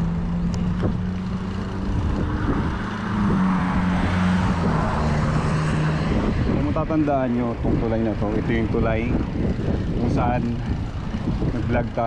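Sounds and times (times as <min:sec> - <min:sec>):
engine hum: 0:00.0 - 0:12.0
road and tyre noise: 0:00.0 - 0:12.0.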